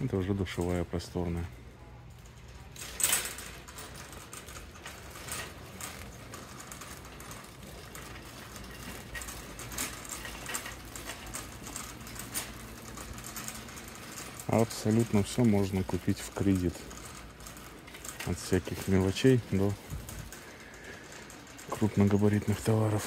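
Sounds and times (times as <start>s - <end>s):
low building hum: 0.0s - 23.0s.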